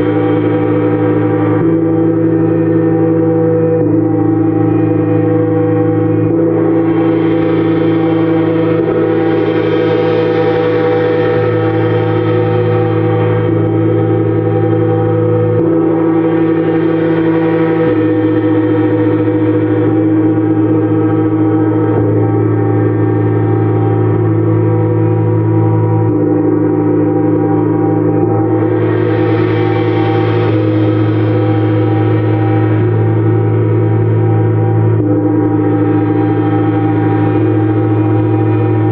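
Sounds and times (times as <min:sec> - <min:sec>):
gongs ringing: 0:00.0 - 0:38.9.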